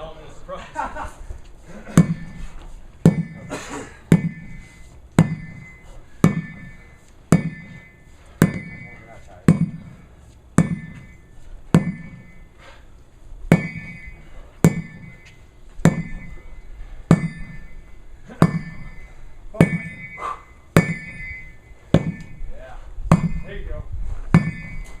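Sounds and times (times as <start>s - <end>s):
sledgehammer striking a tire: 1.8s - 12.8s, 13.5s - 25.0s.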